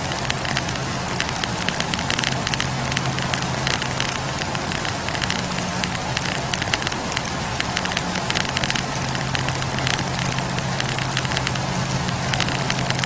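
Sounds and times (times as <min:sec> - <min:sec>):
campfire crackling: 0:00.0 - 0:13.0
steady low hum: 0:00.0 - 0:13.0.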